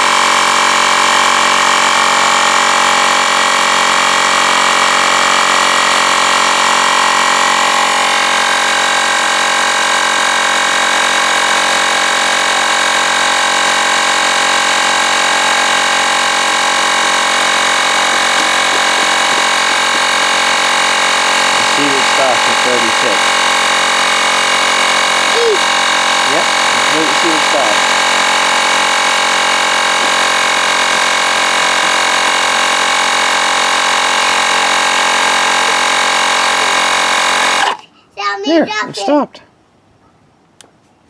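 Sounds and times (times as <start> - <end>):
portable tire inflator running: 0.0 - 37.9.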